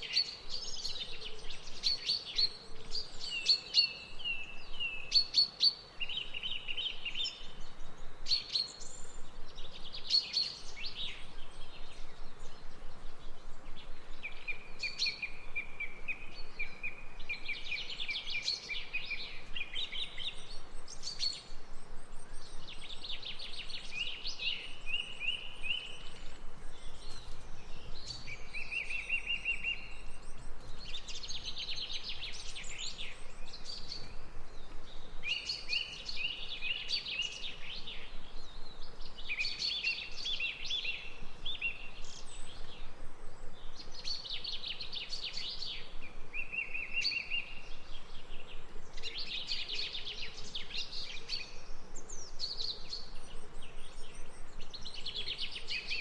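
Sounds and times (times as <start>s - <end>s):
low background hiss: 0.0s - 56.0s
songbird singing with trill: 0.0s - 56.0s.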